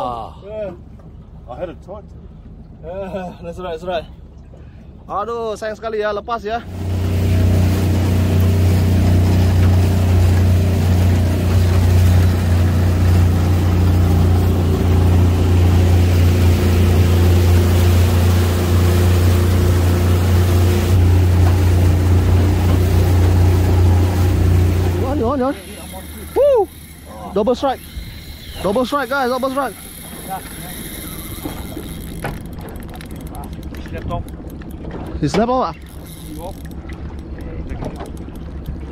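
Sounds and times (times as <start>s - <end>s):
outboard motor droning: 0.0s - 38.9s
water rushing along hull: 0.0s - 38.9s.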